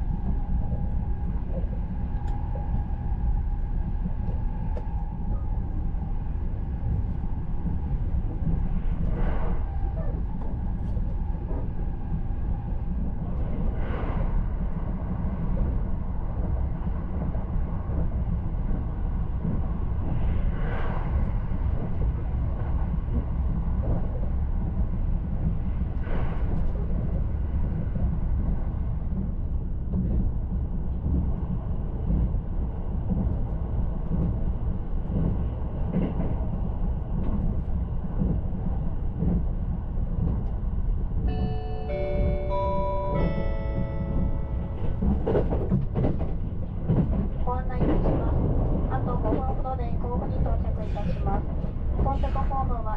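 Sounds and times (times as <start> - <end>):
train wheels rumbling on track: 0.0 - 52.9.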